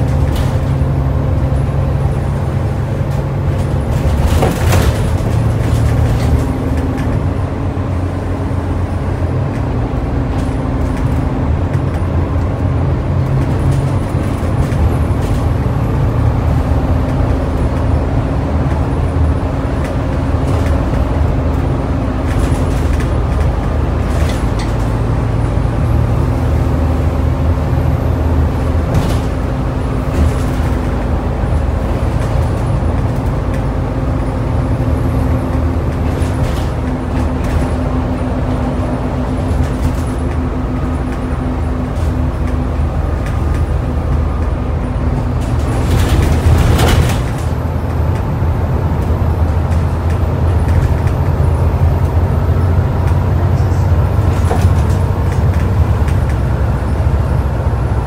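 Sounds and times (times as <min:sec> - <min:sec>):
bus body knocks and rattles: 0:00.0 - 0:58.0
bus engine drone: 0:00.0 - 0:58.0.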